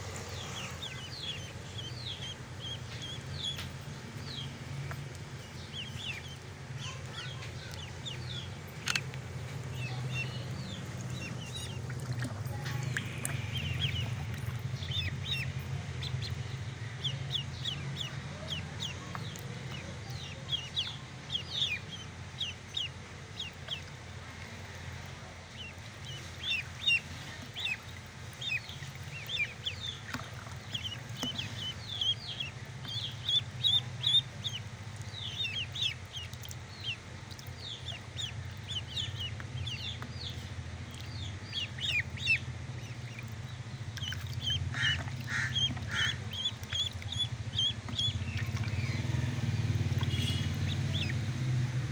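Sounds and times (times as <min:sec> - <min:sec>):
steady low hum: 0:00.0 - 0:51.9
ducklings peeping: 0:00.1 - 0:51.9.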